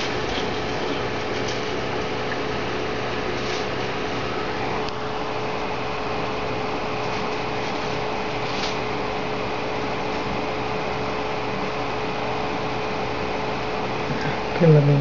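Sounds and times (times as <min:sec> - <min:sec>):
constant hum: 0:00.0 - 0:15.0
fan whirring hiss: 0:00.0 - 0:15.0.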